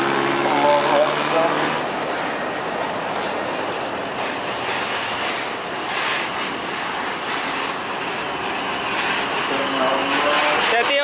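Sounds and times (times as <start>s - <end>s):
bus pulling away and driving past: 0.0s - 10.9s.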